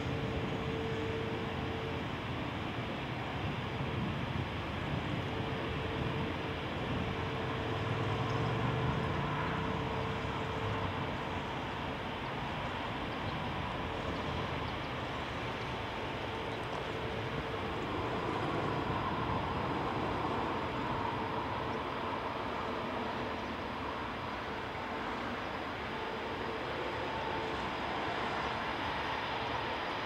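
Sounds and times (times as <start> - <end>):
jet engines idling: 0.0 - 30.0.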